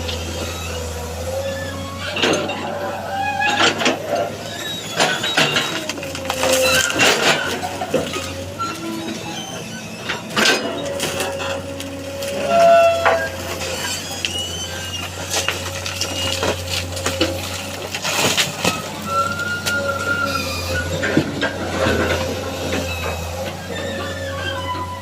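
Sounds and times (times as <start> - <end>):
excavator engine hum: 0.0 - 25.0
hydraulic whine: 0.0 - 25.0
wooden pallets clattering: 3.5 - 25.0.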